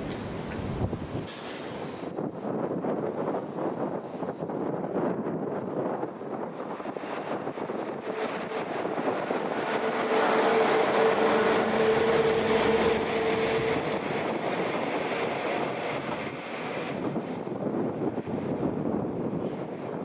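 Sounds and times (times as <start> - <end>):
train passing: 0.0 - 20.0.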